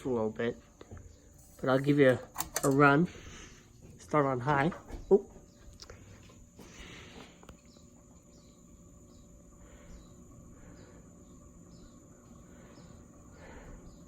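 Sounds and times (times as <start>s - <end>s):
insect chirping: 0.0s - 14.0s.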